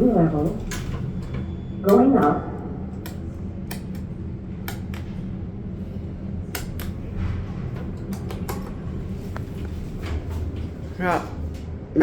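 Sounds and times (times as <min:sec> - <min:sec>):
elevator low hum: 0:00.0 - 0:12.0.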